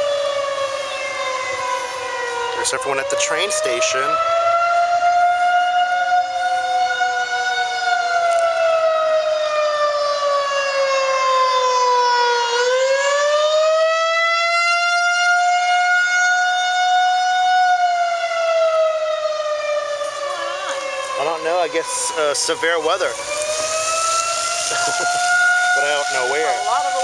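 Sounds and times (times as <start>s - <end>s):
warning siren wailing: 0.0s - 27.0s.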